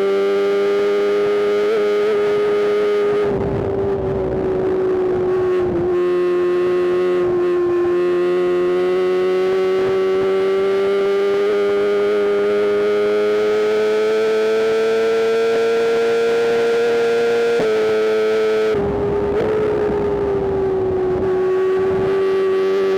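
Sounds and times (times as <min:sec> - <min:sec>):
motorcycle engine at high revs: 0:00.0 - 0:22.9.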